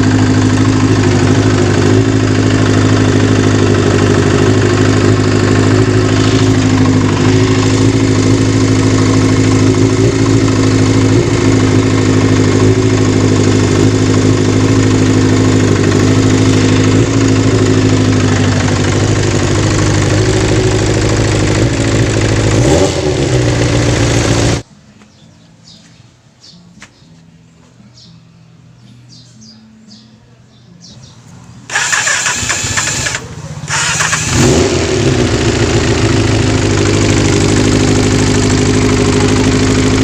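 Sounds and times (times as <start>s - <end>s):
motorcycle engine running: 0.0s - 24.6s, 31.6s - 40.0s.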